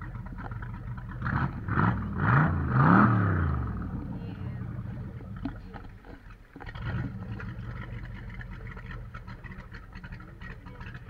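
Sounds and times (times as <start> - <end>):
motorboat engine humming: 0.0 - 11.0
water splashing: 0.0 - 11.0.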